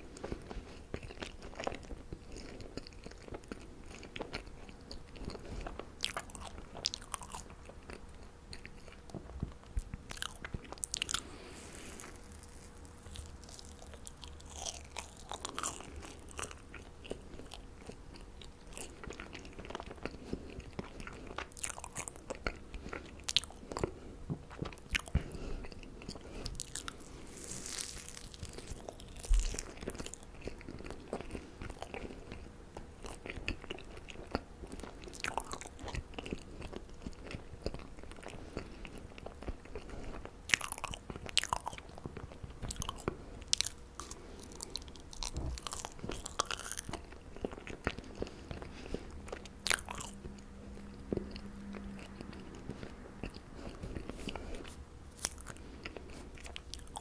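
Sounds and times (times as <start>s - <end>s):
chewing marshmallows: 0.0s - 57.0s.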